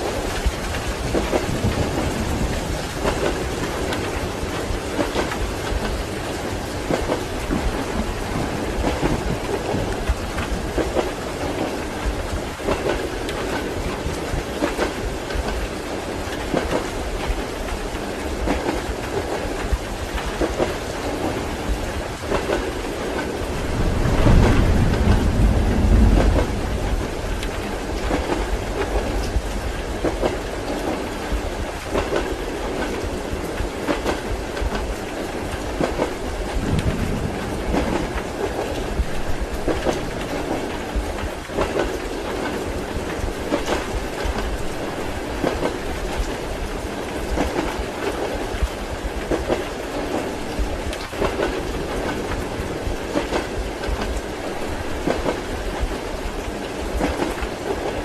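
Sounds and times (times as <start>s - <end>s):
thunder rolling: 0.0s - 56.0s
rain: 0.0s - 58.0s
train wheels clacking over rail joints: 0.0s - 58.0s.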